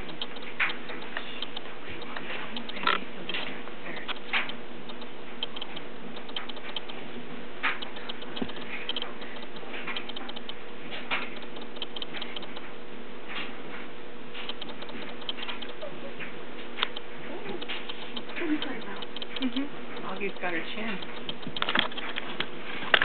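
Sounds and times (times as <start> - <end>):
low hum: 0.0 - 23.0
paws and claws clicking: 0.0 - 23.0.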